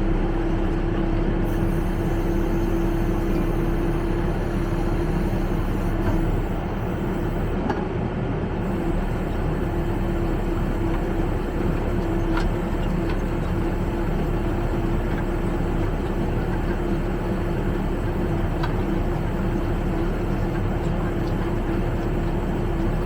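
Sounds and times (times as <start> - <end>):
hydraulic rollers humming: 0.0 - 7.8, 8.6 - 23.0
diesel engine running: 0.0 - 23.0.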